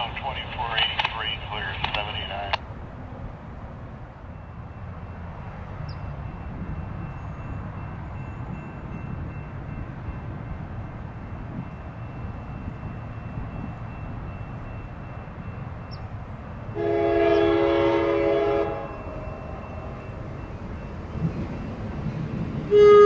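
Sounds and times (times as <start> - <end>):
approaching train rumble: 0.0 - 23.0.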